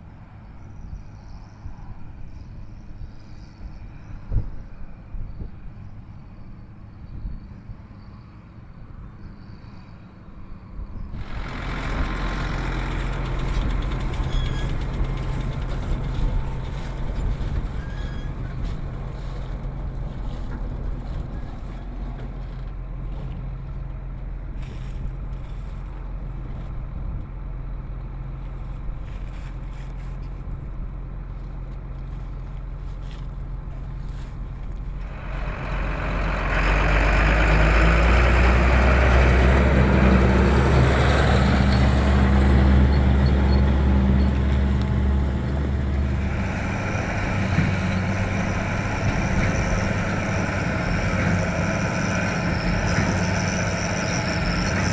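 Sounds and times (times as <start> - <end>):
straw baler machinery noise: 10.0 - 54.9
tractor diesel engine running: 10.7 - 54.9.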